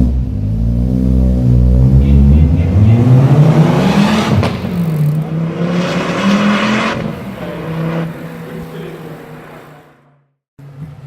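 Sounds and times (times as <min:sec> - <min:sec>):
sharp exhaust crack: 0:00.0 - 0:09.8
car engine accelerating: 0:00.0 - 0:11.0.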